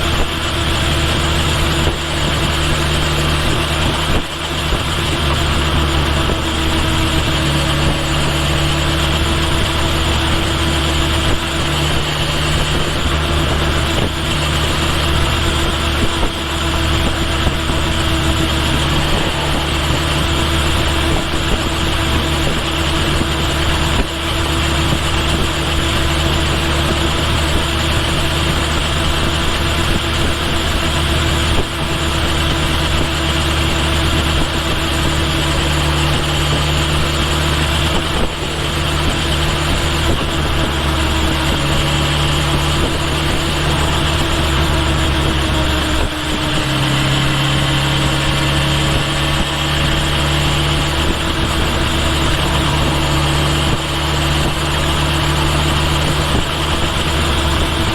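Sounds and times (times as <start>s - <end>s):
motorcycle engine running: 0.0s - 57.9s
wind and road noise: 0.0s - 57.9s.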